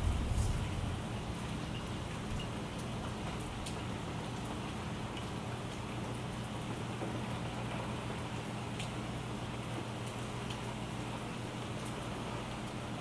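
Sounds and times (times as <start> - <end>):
raindrops ticking: 0.0 - 11.0
steady rain: 0.0 - 13.0.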